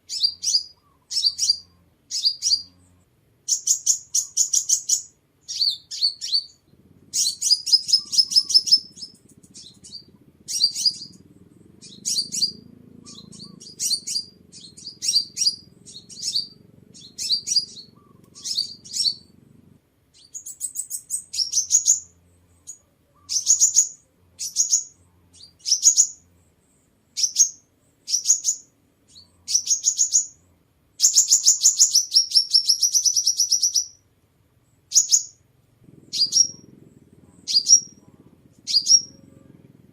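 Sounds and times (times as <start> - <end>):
bird twittering trills: 0.1 - 19.5, 20.1 - 30.4, 31.0 - 34.0, 34.6 - 39.8.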